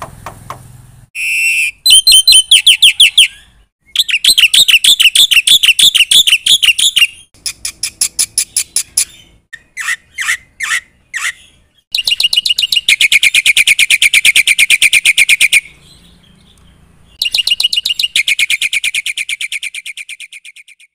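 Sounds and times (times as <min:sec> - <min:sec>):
myna singing rapid chirps: 0:01.9 - 0:16.2, 0:17.1 - 0:20.7.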